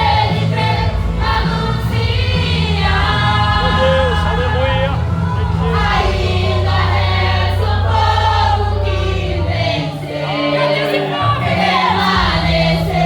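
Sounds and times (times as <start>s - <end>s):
group singing gospel song: 0.0s - 13.0s.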